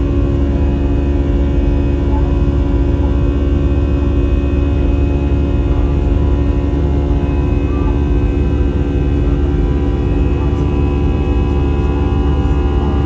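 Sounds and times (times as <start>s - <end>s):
airplane cabin rumble: 0.0s - 13.0s
constant layered hum: 0.0s - 13.0s.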